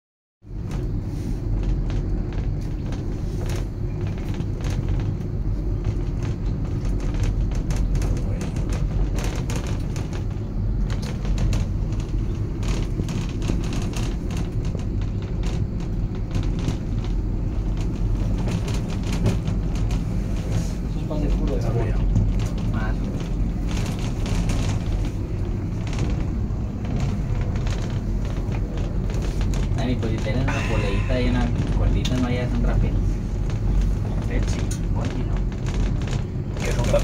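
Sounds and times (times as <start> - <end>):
gondola cabin ride noise: 0.4 - 37.0.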